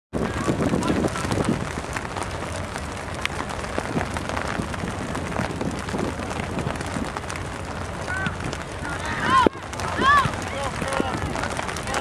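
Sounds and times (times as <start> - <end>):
light rain hissing: 0.2 - 12.0.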